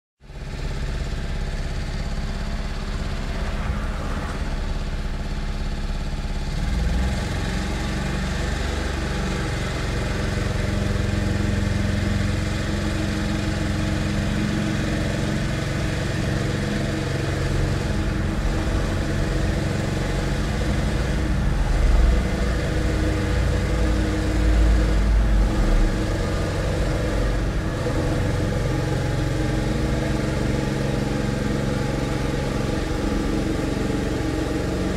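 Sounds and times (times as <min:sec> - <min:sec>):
machine engine humming: 0:00.3 - 0:34.9.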